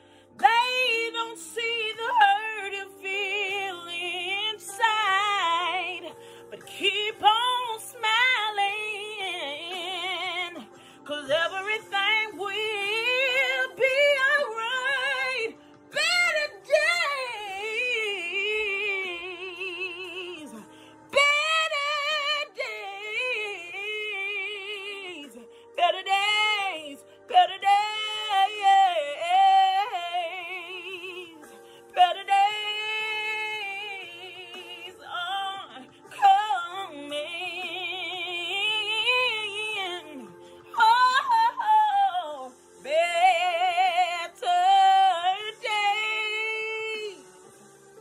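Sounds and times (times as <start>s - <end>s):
woman singing gospel ballad: 0.0s - 48.0s.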